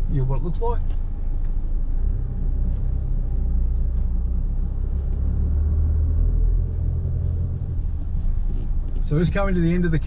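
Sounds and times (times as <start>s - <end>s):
vehicle engine and tyres rumbling: 0.0s - 10.0s.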